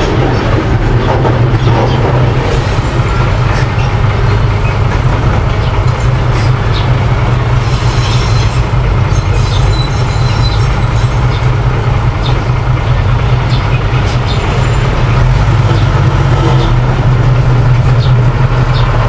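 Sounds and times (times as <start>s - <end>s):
bulldozer diesel engine rumbling: 0.0s - 19.0s.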